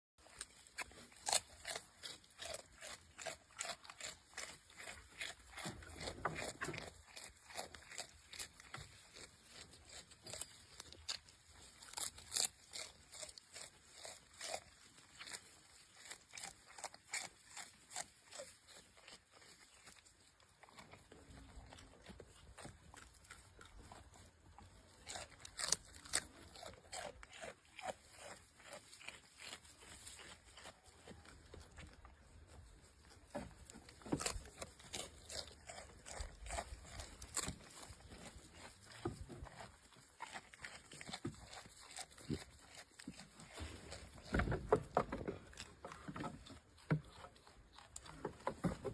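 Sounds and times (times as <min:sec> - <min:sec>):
goat tearing and chewing grass: 0:00.2 - 0:48.9.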